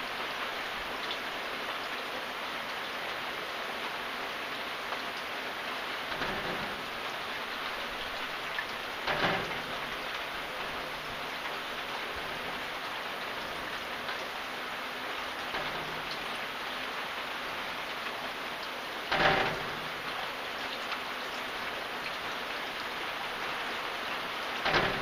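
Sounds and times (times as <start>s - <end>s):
rain falling on a surface: 0.0s - 25.0s.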